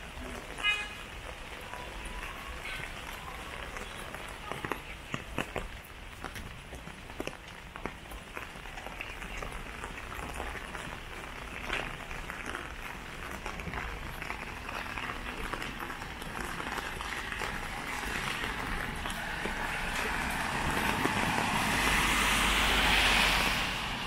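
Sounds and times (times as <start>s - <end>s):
rain pattering and dripping: 0.0s - 24.0s
tyres hissing on wet road: 0.0s - 24.0s.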